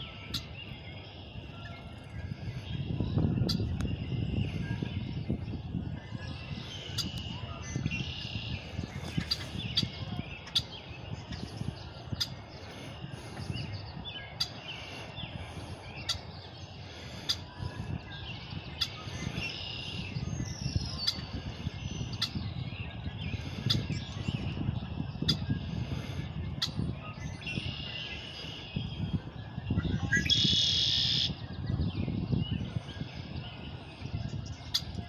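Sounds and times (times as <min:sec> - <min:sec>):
songbirds chipping and chirping: 0:00.0 - 0:35.0.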